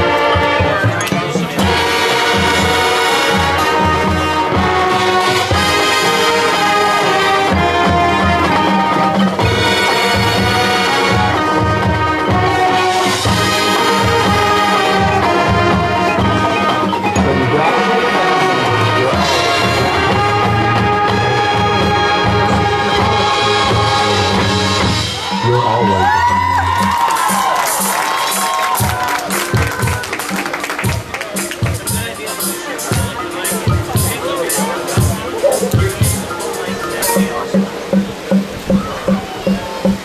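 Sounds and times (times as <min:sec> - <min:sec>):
brass band playing slow ballad: 0:00.0 - 0:39.4.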